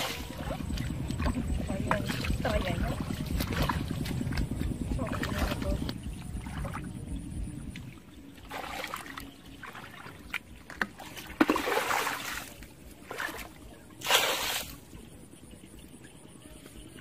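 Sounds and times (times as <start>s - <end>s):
muddy water sloshing and splashing: 0.0s - 7.1s, 7.7s - 15.0s.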